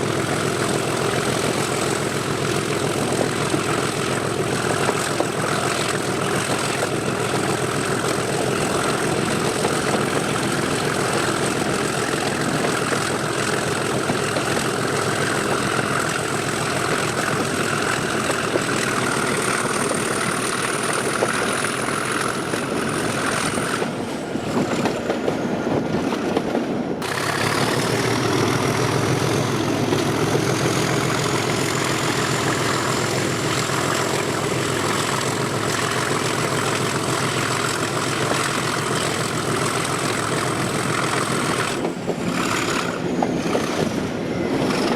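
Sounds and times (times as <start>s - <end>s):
diesel locomotive engine: 0.0s - 44.9s.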